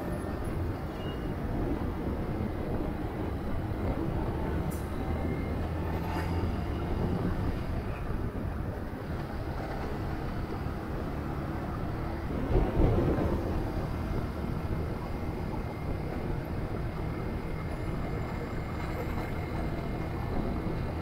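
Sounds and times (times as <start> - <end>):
motorcycle engine and road rumble: 0.0 - 21.0
wind noise: 0.0 - 21.0.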